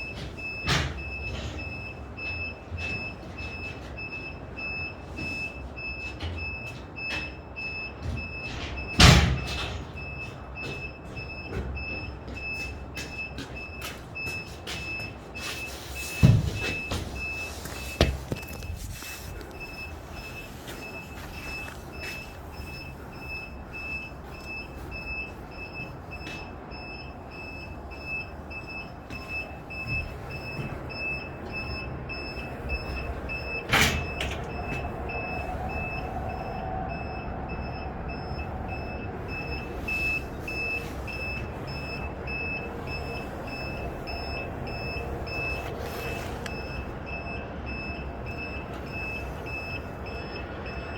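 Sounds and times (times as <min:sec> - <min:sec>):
low engine rumble: 0:00.0 - 0:50.9
reversing alarm beeps: 0:00.0 - 0:50.9.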